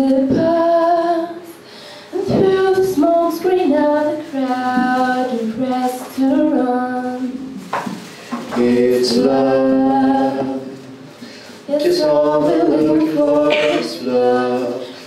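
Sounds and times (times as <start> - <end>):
woman and man singing duet: 0.0 - 7.5, 8.4 - 10.9, 11.5 - 15.0.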